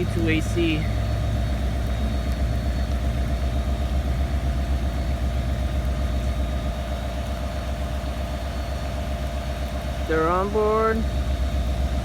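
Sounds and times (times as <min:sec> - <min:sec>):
diesel locomotive idling: 0:00.0 - 0:12.0
faint steady hum: 0:00.0 - 0:12.0.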